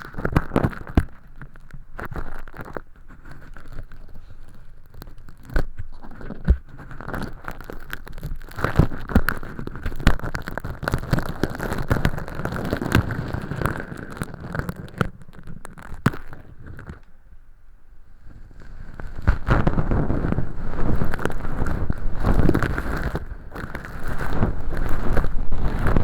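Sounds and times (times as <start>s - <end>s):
ear pick scraping and crackling: 0.0s - 17.3s, 18.1s - 26.0s.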